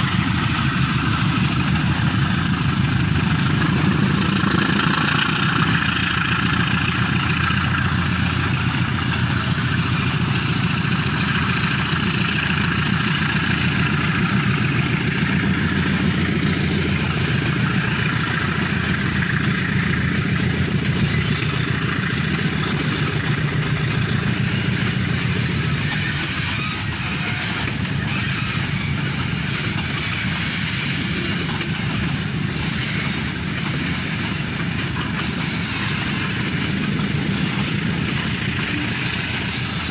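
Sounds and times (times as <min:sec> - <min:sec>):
diesel locomotive engine drone: 0:00.0 - 0:39.9
train rolling noise: 0:00.0 - 0:39.9.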